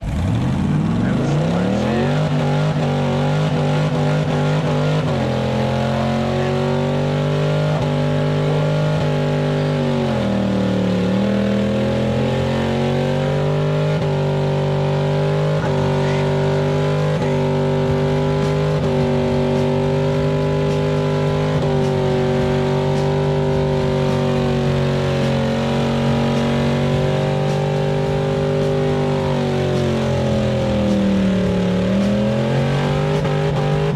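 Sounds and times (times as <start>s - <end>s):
pickup engine revving hard: 0.0s - 33.9s.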